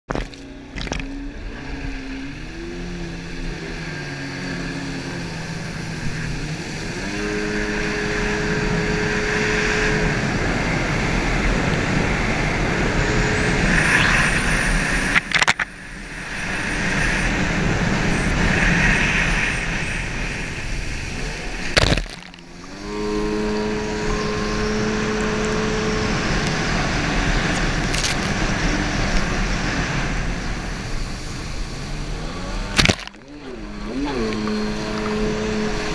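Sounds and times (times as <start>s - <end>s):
jet ski engine accelerating: 0.1s - 35.9s.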